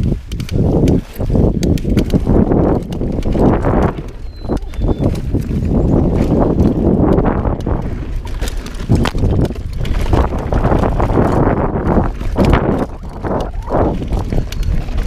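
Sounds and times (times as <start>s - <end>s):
bike clattering over bumps: 0.0s - 15.0s
tyres rolling over dirt: 0.0s - 15.0s
wind on microphone: 0.0s - 15.0s.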